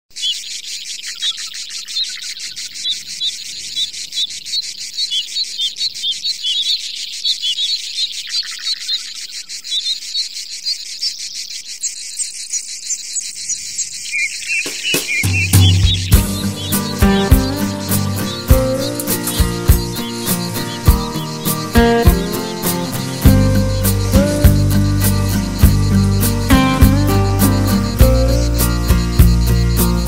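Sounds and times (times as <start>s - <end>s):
small birds chirping: 0.1s - 30.0s
insects chirping chorus: 0.2s - 30.0s.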